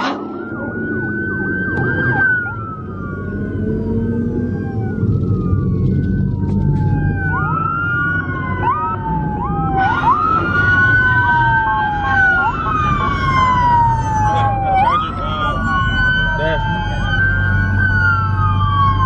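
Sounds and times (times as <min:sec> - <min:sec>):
police sirens wailing: 0:00.0 - 0:19.0.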